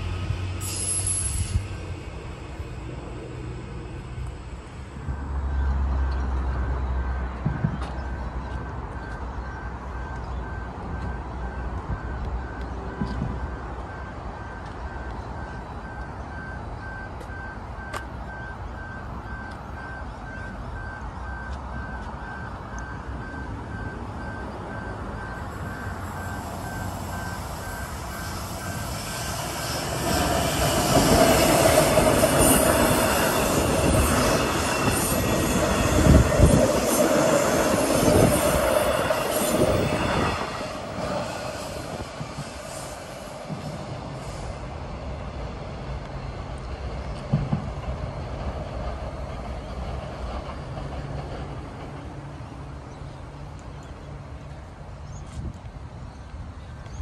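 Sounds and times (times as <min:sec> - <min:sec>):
train rumbling past: 0:00.0 - 0:57.0.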